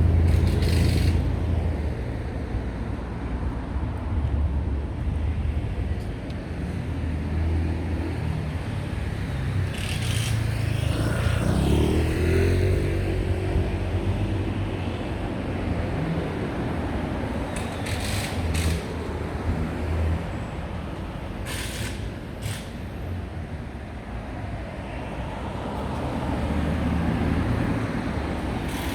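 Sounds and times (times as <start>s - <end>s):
street traffic rumble: 0.0s - 28.9s.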